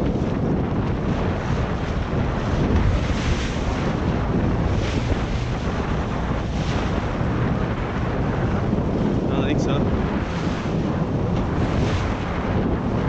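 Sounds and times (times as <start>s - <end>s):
sea water noise: 0.0s - 13.0s
wind buffeting microphone: 0.0s - 13.0s.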